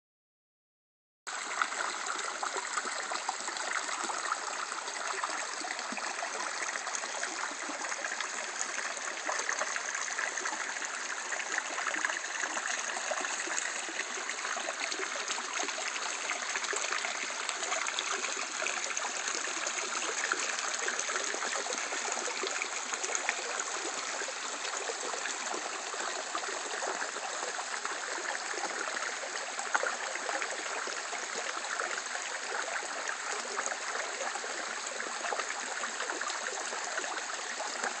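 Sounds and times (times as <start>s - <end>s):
brook trickling over rocks: 1.3s - 38.0s.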